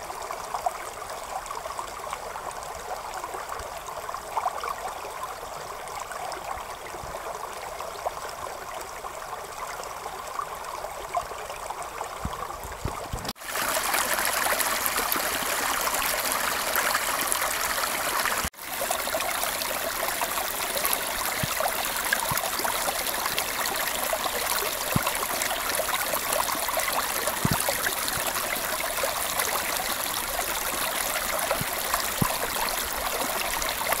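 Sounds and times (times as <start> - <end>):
creek water flowing: 0.0 - 34.0.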